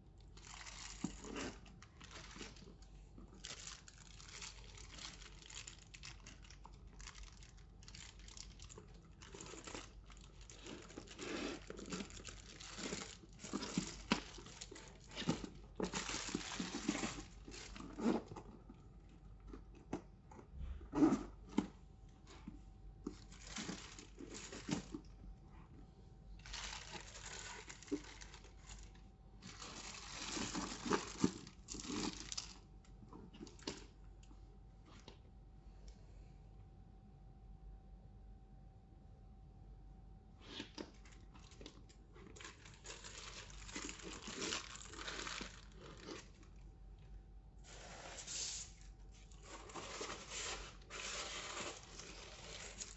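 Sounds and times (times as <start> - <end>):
packaging crinkling and rustling: 0.2 - 20.1, 21.4 - 25.3, 26.4 - 34.0, 40.5 - 52.9.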